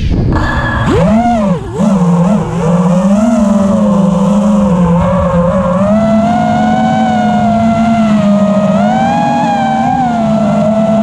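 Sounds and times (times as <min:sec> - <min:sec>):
quadcopter motors whining: 0:00.4 - 0:11.0.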